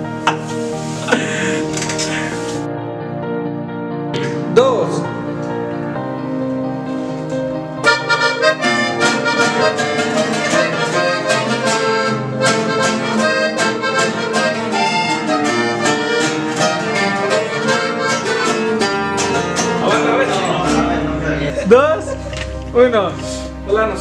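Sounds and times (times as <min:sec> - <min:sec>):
acoustic guitars strumming: 0:00.0 - 0:02.8, 0:04.1 - 0:24.0
piano accordion melody: 0:00.0 - 0:24.0.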